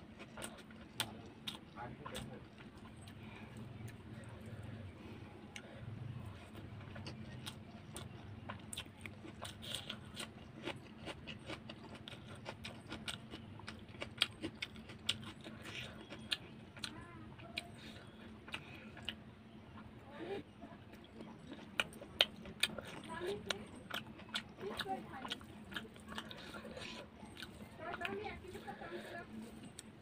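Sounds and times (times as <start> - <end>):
chewing with crunches: 0.0 - 30.0
steady low hum: 0.0 - 30.0.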